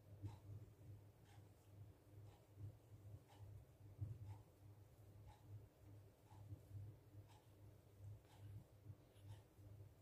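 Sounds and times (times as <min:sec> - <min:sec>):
soft ticking: 0:00.0 - 0:10.0.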